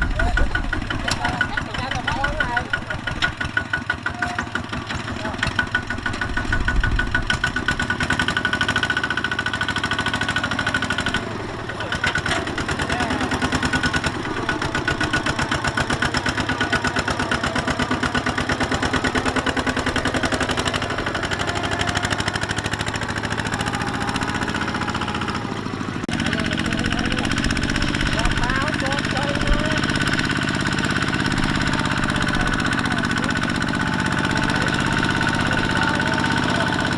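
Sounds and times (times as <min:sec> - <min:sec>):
diesel tractor engine chugging: 0:00.0 - 0:36.9.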